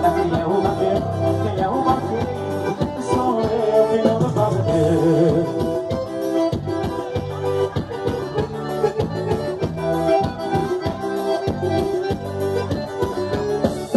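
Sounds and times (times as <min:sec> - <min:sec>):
accordion melody: 0:00.0 - 0:13.9
steady regular beat: 0:00.0 - 0:13.9.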